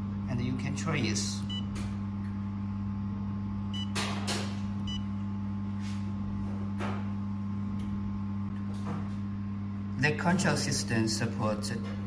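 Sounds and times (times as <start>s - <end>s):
laser welder electrical hum: 0.0s - 12.0s.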